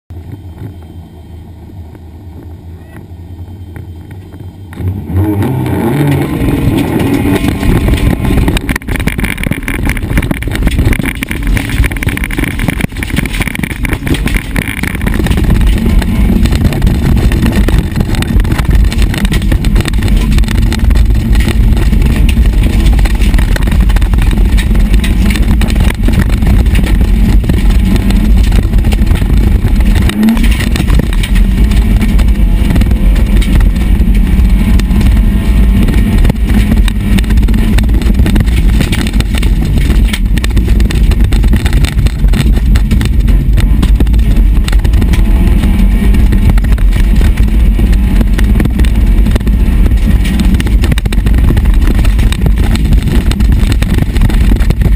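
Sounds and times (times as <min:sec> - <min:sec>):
car engine revving hard: 0:04.7 - 0:51.6.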